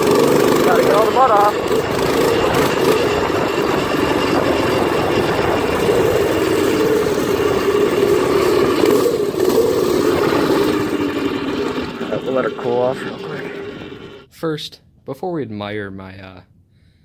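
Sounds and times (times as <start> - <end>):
minibike engine running: 0.0 - 14.3.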